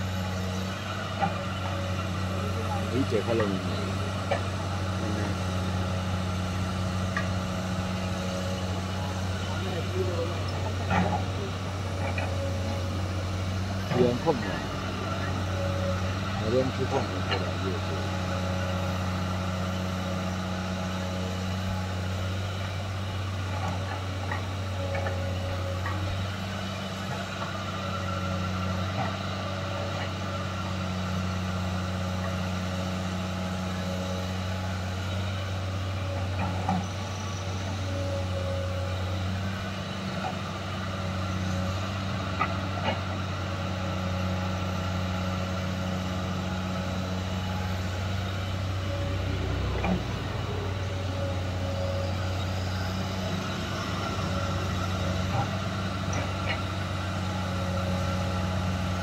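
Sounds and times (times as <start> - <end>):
excavator diesel engine digging: 0.0 - 59.0.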